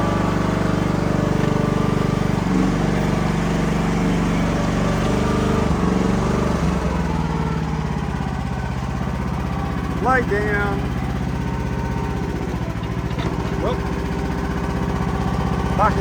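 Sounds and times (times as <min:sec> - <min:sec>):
small petrol engine running: 0:00.0 - 0:16.0.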